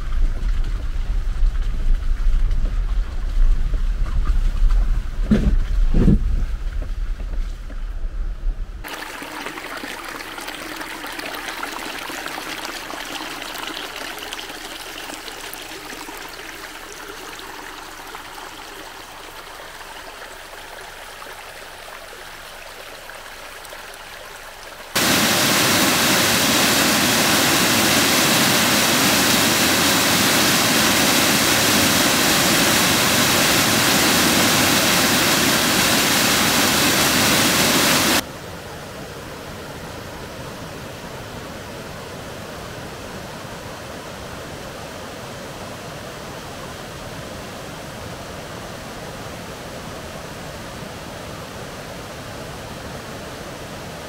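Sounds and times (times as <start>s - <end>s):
rushing water: 8.8s - 54.0s.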